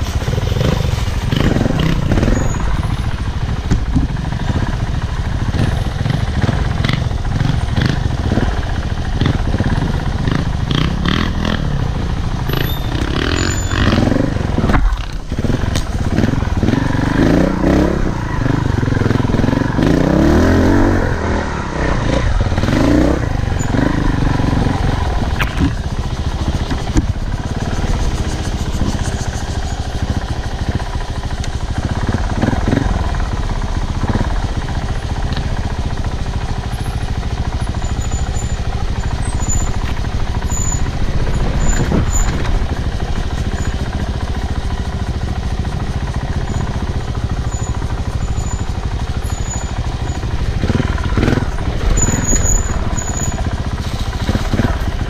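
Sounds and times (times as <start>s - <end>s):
off-road motorcycle rumble: 0.0s - 55.0s.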